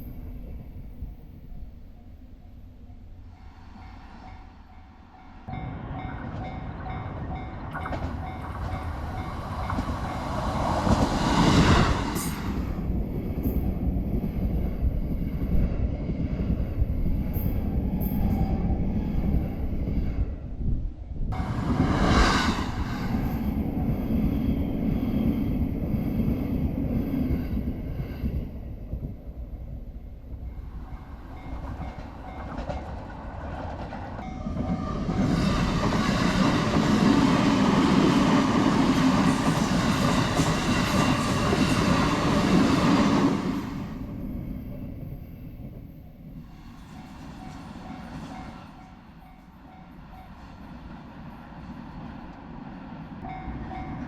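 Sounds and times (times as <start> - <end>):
dense rattle of train: 0.0 - 54.0
train rumbling past: 0.0 - 54.0.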